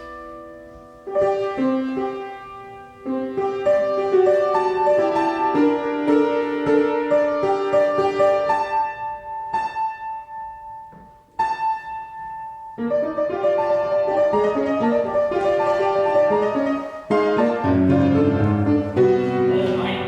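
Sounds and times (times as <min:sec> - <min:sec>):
solo piano playing: 0:00.0 - 0:20.0.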